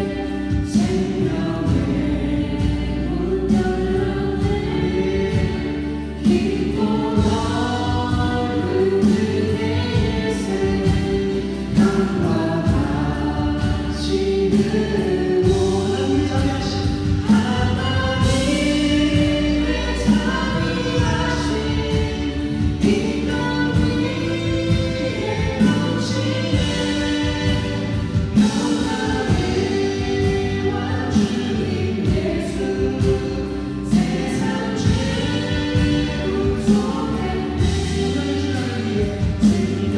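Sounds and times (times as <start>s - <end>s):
group singing praise song: 0.0s - 39.9s
instrumental accompaniment: 0.0s - 39.9s.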